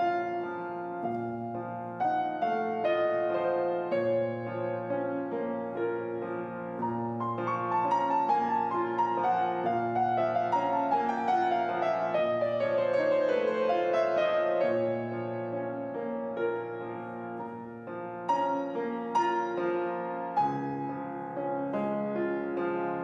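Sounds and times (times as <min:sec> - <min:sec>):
solo piano piece: 0:00.0 - 0:23.0.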